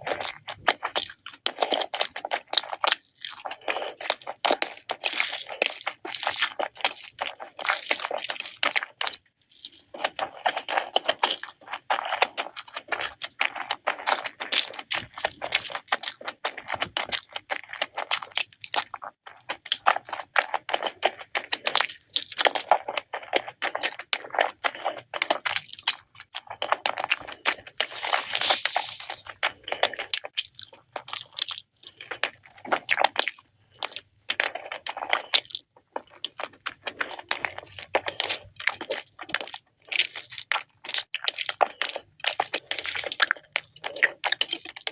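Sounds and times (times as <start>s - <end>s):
mouth clicks and smacks: 0.0s - 44.9s
person chewing and crunching food: 0.0s - 44.9s.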